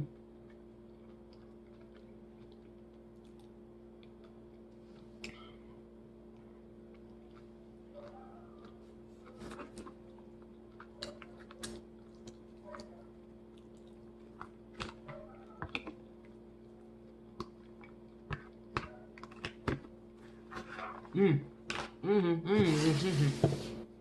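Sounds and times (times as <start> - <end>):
steady low hum: 0.0 - 24.0
crunchy chewing: 0.1 - 5.2, 6.3 - 21.1.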